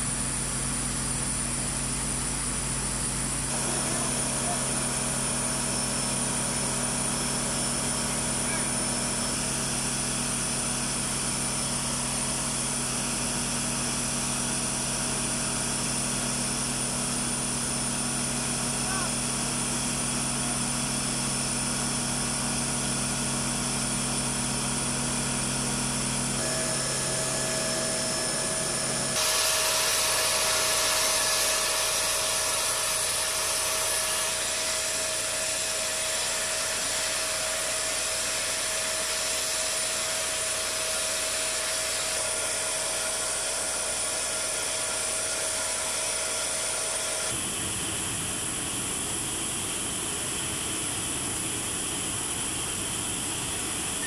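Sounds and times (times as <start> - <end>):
machinery whine: 0.0 - 54.0.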